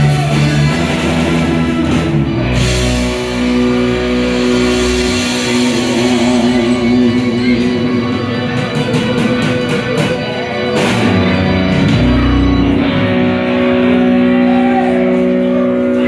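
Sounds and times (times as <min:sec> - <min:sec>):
drum kit hits: 0:00.0 - 0:13.3
electric guitar: 0:00.0 - 0:16.0.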